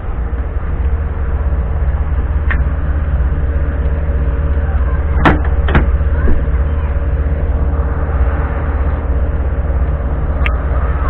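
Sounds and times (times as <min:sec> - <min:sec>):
steady hum: 0:00.0 - 0:11.0
vehicle engine rumble: 0:00.0 - 0:11.0.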